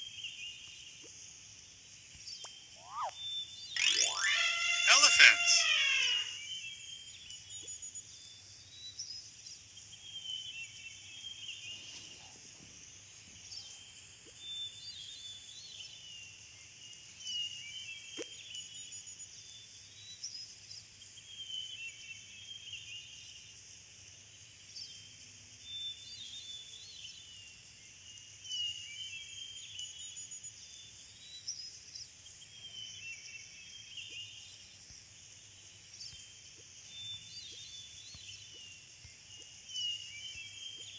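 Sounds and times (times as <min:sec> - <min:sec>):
small birds chirping: 0:00.0 - 0:23.6, 0:24.2 - 0:40.9.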